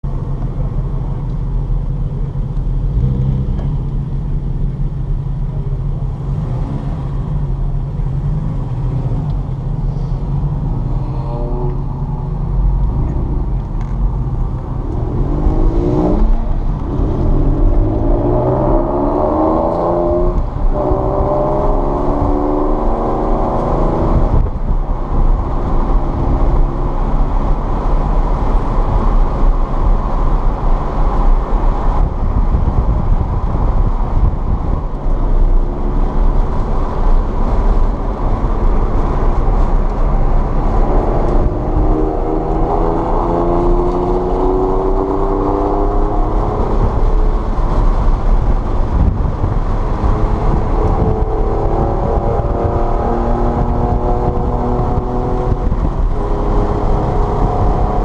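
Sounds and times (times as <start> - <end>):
car engine accelerating: 0.0 - 58.0
low rumble: 0.0 - 58.0.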